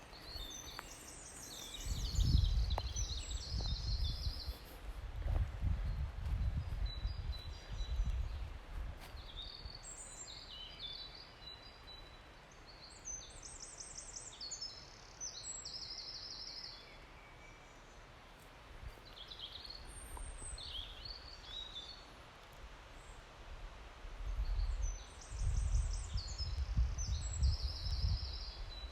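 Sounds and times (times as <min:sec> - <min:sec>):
songbirds singing: 0:00.0 - 0:22.2, 0:24.2 - 0:28.9.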